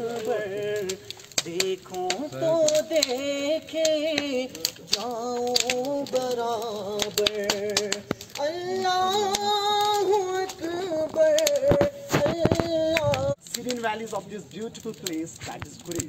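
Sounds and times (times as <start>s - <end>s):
man singing into a microphone: 0.0s - 13.4s
bonfire crackling: 0.0s - 16.0s.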